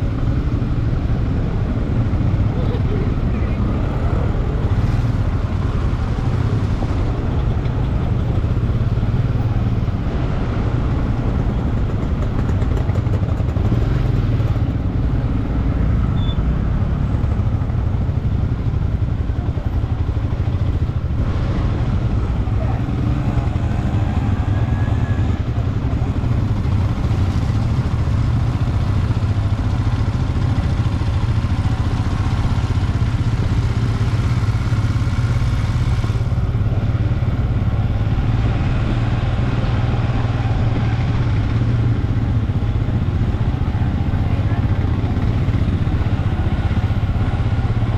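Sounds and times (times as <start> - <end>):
motorcycle engine running steadily: 0.0 - 47.9.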